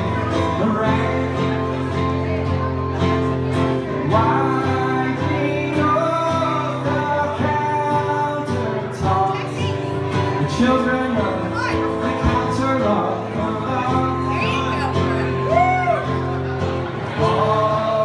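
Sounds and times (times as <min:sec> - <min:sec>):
man singing: 0:00.0 - 0:18.0
strummed acoustic guitar: 0:00.0 - 0:18.0.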